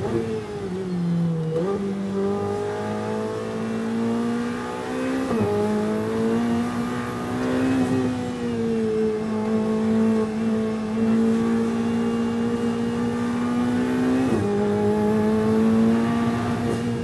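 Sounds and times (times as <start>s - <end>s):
race car engine revving: 1.4s - 17.0s.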